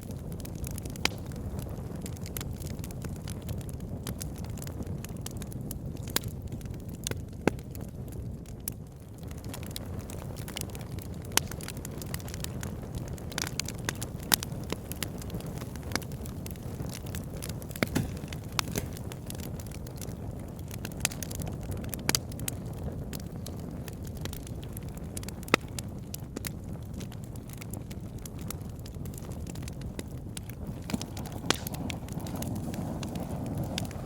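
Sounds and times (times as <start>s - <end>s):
fire crackling and popping: 0.0s - 34.0s
flames rushing in fireplace: 0.0s - 34.0s.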